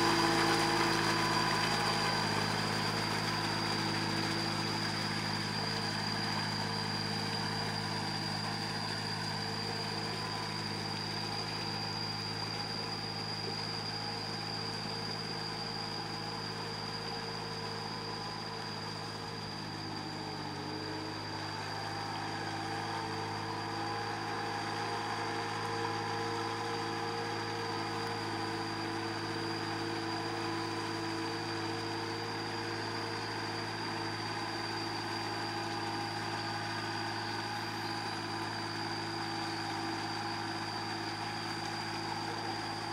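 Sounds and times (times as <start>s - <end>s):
tractor engines running under load: 0.0s - 42.9s.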